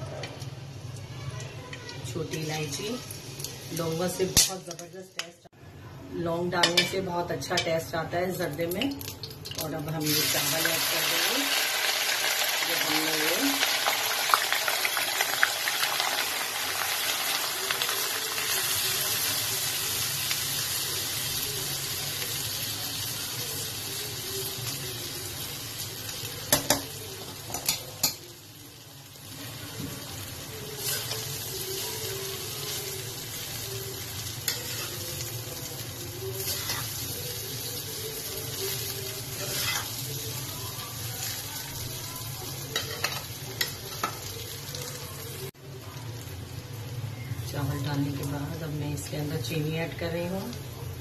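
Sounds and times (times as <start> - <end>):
rice sizzling in hot fat: 0.0 - 5.4, 6.7 - 51.0.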